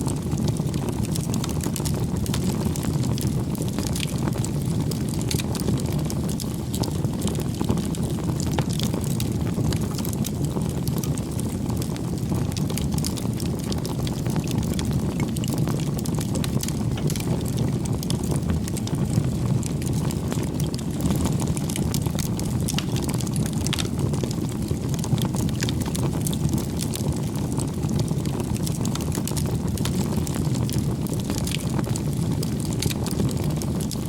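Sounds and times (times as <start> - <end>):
burning wood crackling: 0.0 - 34.0
low fire rumble: 0.0 - 34.0.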